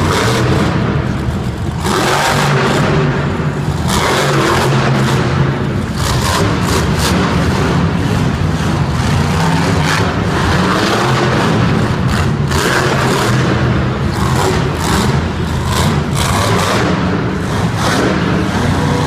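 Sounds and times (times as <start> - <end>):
monster truck engine running: 0.0 - 19.0.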